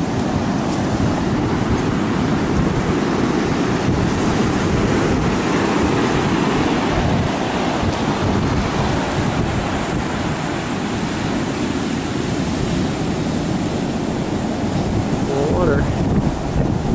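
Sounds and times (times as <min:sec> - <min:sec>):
surf crashing: 0:00.0 - 0:16.9
wind buffeting microphone: 0:00.0 - 0:16.9.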